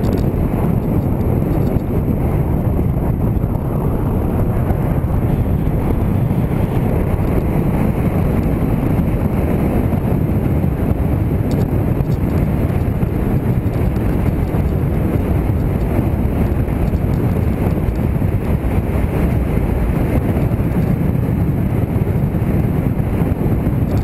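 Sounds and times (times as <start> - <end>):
motorcycle engine: 0.0 - 22.2
road noise: 0.0 - 24.0
wind rushing over microphone: 0.0 - 24.0.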